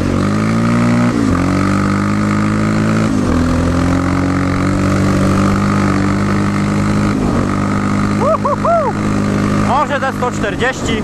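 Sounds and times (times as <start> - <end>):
quad bike engine running hard: 0.0 - 11.0.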